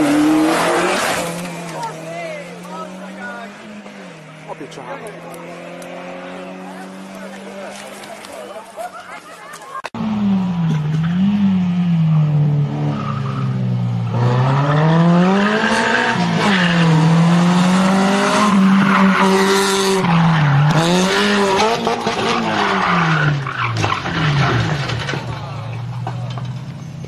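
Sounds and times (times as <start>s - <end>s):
rally car engine revving: 0.0s - 8.0s, 10.0s - 26.2s
tyres skidding and squealing: 0.0s - 27.0s.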